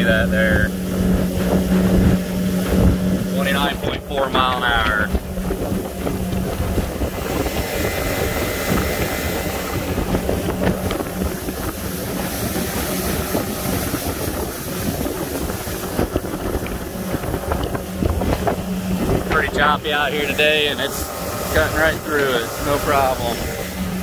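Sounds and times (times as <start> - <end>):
outboard motor droning: 0.0 - 24.0
water rushing under hull: 0.0 - 24.0
wind buffeting microphone: 0.0 - 24.0.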